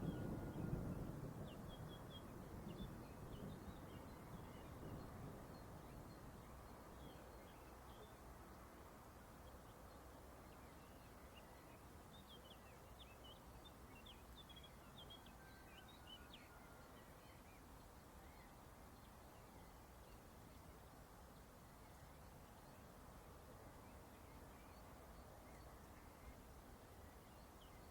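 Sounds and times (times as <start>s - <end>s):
steady low hiss: 0.0s - 27.9s.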